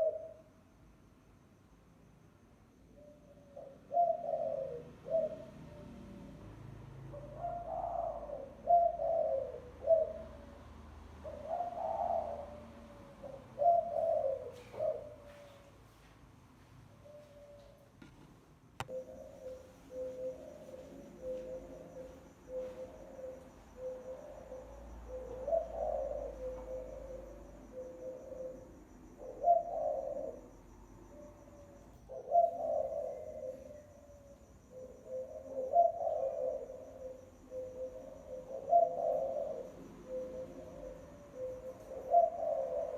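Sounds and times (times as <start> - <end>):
dove cooing: 0.0 - 0.5, 3.0 - 6.4, 7.0 - 15.8, 18.8 - 42.9.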